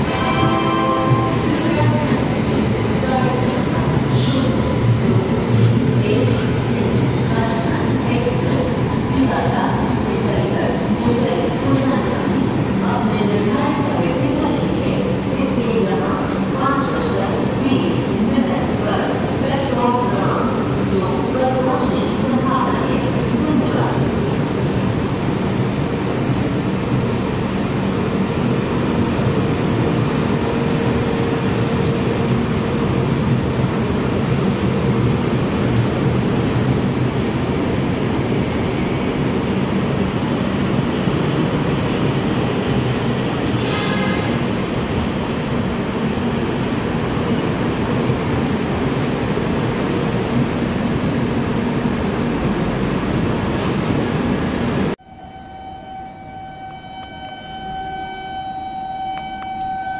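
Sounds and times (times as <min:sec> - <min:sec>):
train coaches rumbling past: 0:00.0 - 0:59.9.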